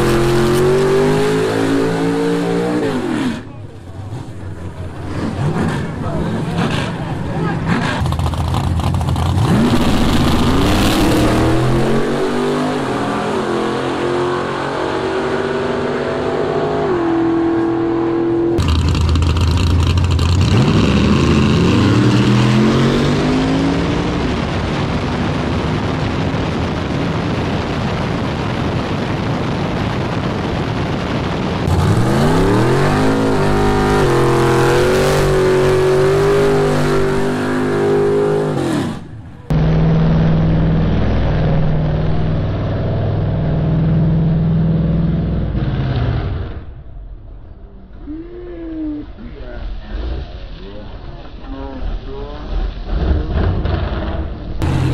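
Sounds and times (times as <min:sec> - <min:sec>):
racing car engines accelerating: 0:00.0 - 0:25.9, 0:31.6 - 0:46.8, 0:49.0 - 0:54.9.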